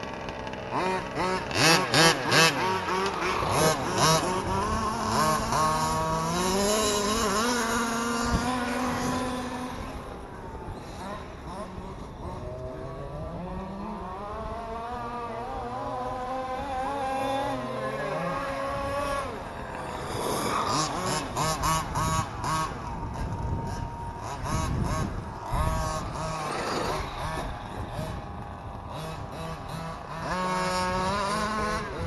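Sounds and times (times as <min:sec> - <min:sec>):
rc car motors revving: 0:00.0 - 0:32.0.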